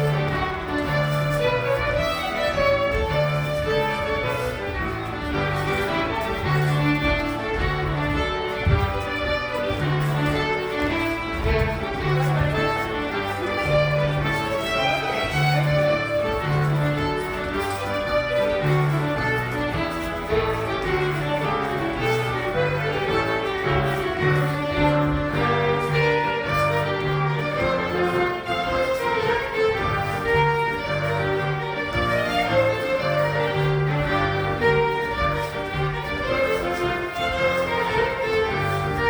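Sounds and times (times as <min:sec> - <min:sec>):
fiddle playing brisk melody: 0:00.0 - 0:39.0.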